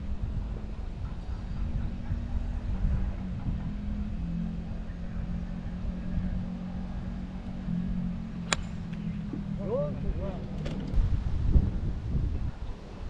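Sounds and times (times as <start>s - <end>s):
vehicle engine humming: 0.0s - 11.4s.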